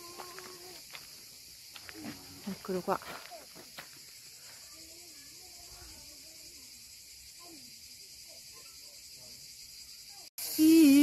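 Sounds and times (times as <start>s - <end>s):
high-pitched insect hiss: 0.0s - 11.0s.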